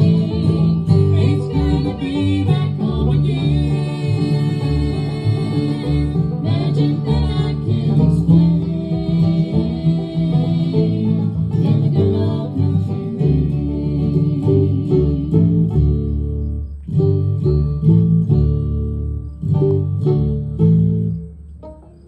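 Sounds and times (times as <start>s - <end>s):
strummed acoustic guitar: 0.0s - 22.0s
upright bass notes: 0.0s - 22.0s.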